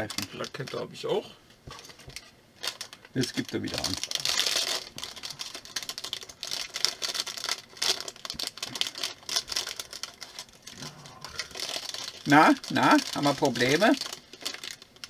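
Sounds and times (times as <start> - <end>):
plastic bag crinkling: 0.0 - 1.1, 1.8 - 15.0.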